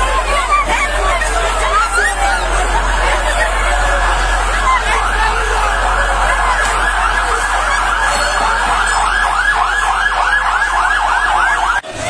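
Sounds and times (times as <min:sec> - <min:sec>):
fire engine siren yelping: 0:00.0 - 0:11.9.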